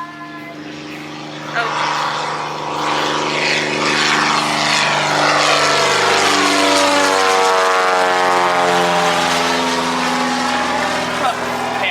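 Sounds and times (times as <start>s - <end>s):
propeller airplane flying past: 0.0s - 11.9s.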